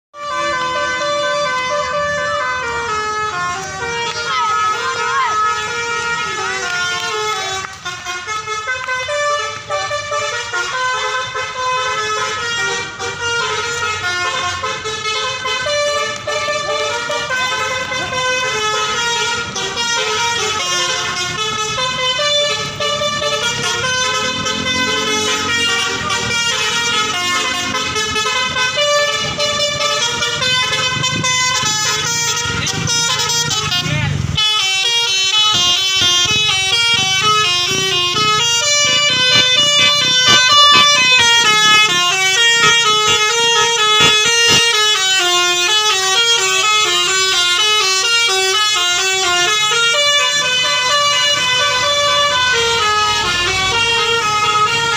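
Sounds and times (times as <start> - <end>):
multi-tone musical bus horn: 0.1 - 54.9.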